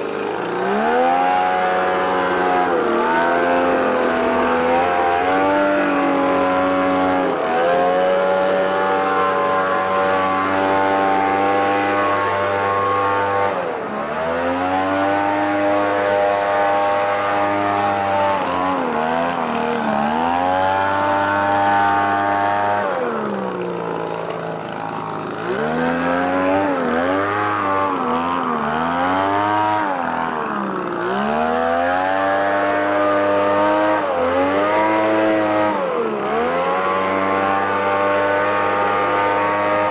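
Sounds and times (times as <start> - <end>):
leaf blower engine revving: 0.0 - 39.9.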